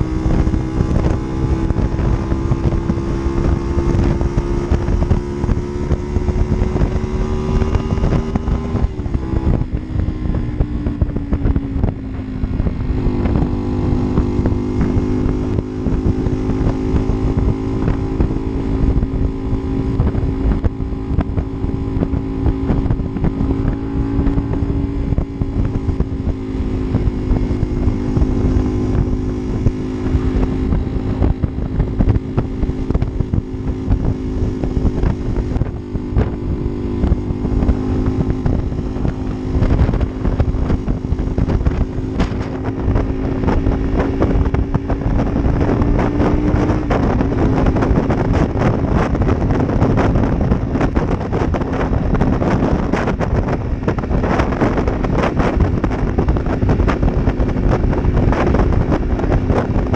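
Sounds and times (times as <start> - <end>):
motorcycle engine running: 0.0 - 59.9
wind on microphone: 0.0 - 59.9.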